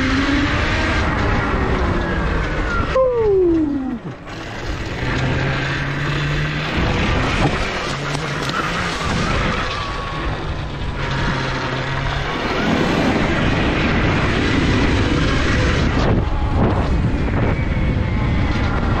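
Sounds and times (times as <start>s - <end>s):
wind rushing over microphone: 0.0s - 19.0s
tyres on gravel: 0.1s - 19.0s.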